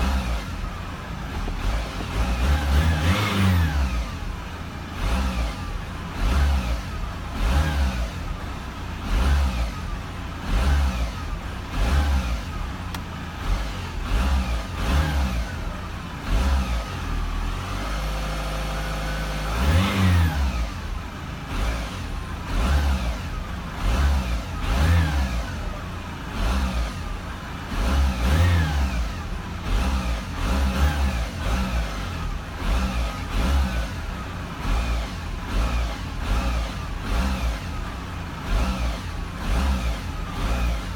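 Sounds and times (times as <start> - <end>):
diesel engine revving: 0.0 - 40.9.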